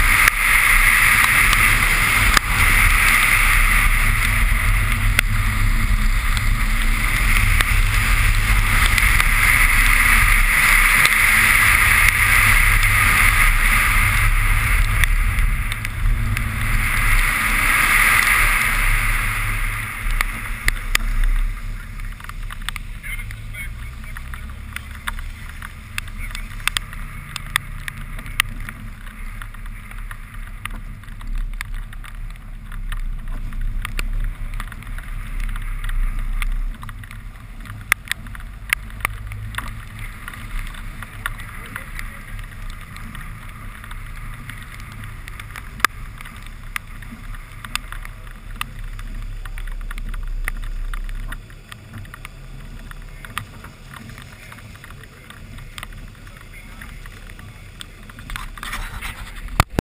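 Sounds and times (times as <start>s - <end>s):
car engine idling: 0.0s - 59.8s
raindrops ticking on camera: 0.0s - 59.8s.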